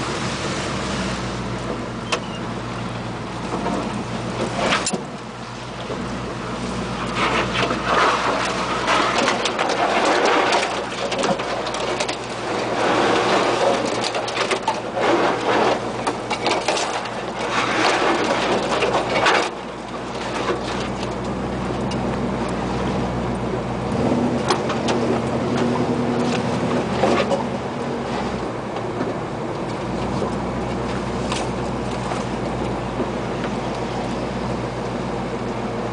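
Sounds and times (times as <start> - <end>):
truck engine running: 0.0 - 35.9.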